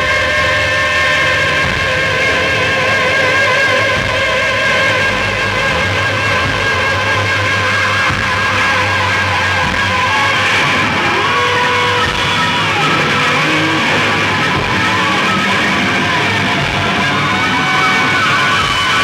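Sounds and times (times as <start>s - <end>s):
droning electric guitar feedback: 0.0s - 19.0s
noise-rock band playing live: 0.0s - 19.0s.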